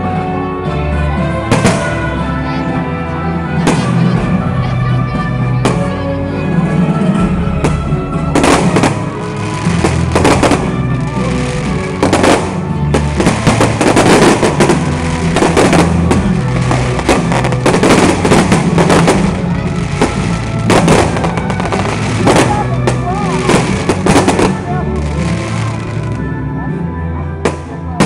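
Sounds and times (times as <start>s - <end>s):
fireworks bangs and crackle: 0.0s - 26.4s, 27.4s - 28.0s
loud music: 0.0s - 28.0s.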